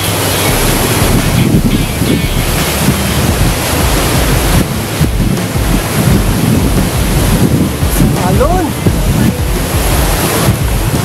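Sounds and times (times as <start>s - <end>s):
sea surf on rocky shore: 0.0s - 11.0s
wind buffeting microphone: 0.0s - 11.0s.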